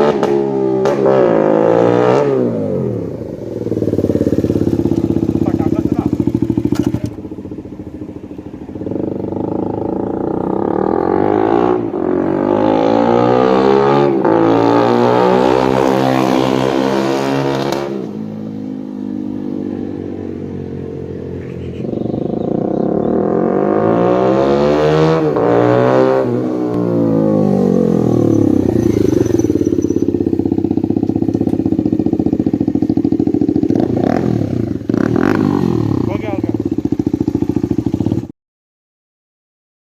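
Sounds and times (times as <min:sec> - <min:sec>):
loud motorcycle engine revving: 0:00.0 - 0:38.3.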